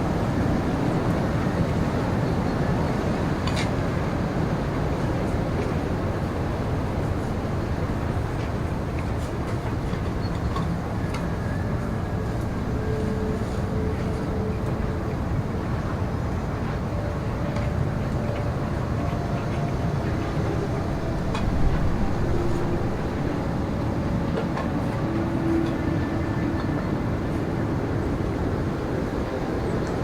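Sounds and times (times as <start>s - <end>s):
blizzard wind rushing: 0.0s - 30.0s.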